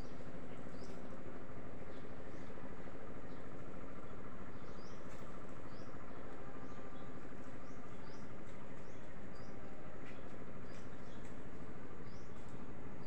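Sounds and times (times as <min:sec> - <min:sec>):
outdoor background rush: 0:00.0 - 0:13.0
small birds chirping: 0:00.0 - 0:13.0.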